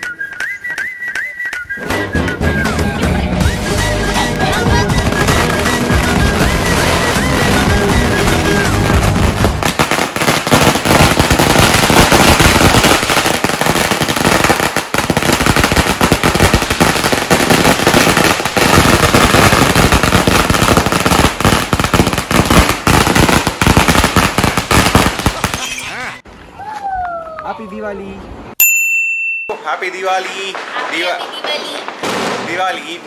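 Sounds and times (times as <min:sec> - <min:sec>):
firecrackers banging and crackling: 0:00.0 - 0:25.8, 0:29.5 - 0:33.0.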